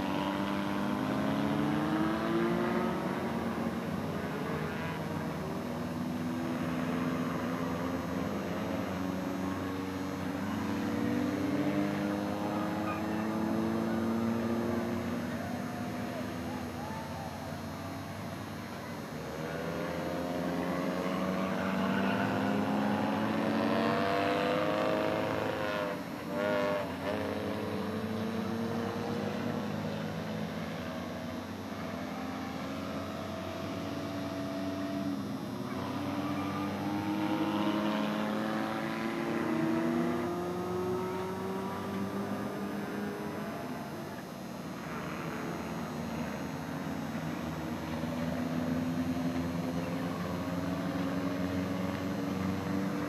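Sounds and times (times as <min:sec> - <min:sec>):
race car engines: 0:00.0 - 0:53.0.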